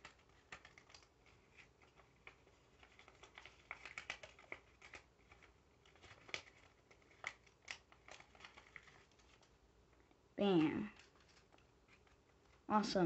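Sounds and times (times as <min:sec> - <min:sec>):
paper crinkling and crackling: 0:00.0 - 0:12.7.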